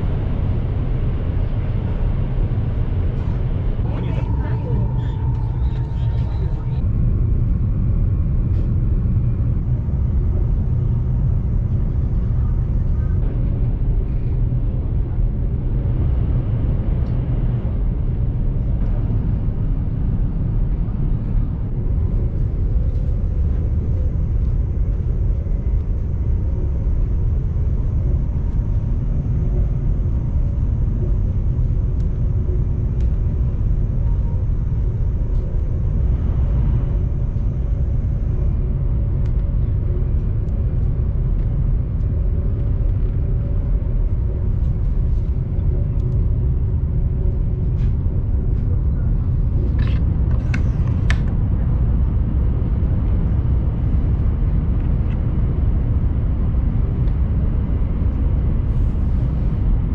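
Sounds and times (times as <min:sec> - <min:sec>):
train rumble inside cabin: 0:00.0 - 0:59.9.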